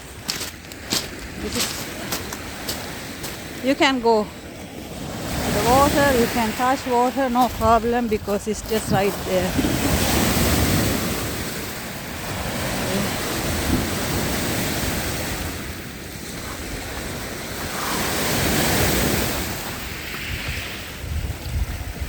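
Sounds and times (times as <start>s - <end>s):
waves washing onto beach: 0.0s - 22.0s
wind buffeting microphone: 0.0s - 22.0s.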